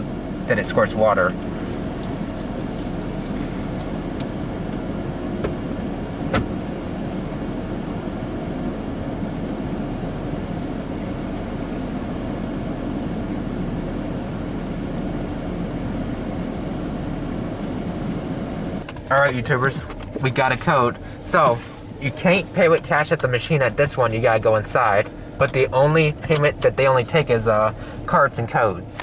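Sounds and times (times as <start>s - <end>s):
low mechanical drone: 0.0s - 29.0s.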